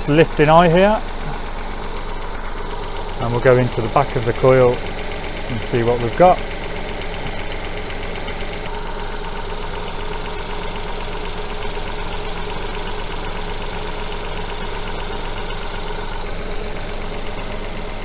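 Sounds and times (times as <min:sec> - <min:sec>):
petrol engine idling: 0:00.0 - 0:18.0.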